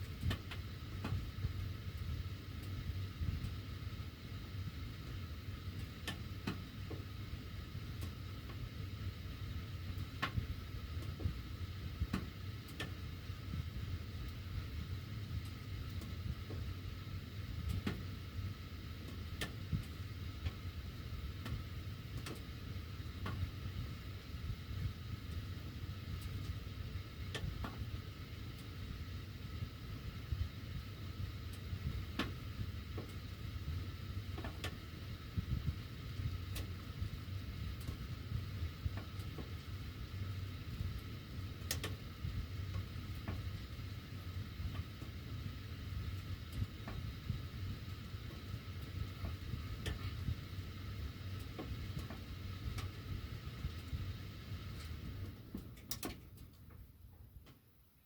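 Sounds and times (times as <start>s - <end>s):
furnace blower rumble: 0.0s - 58.0s.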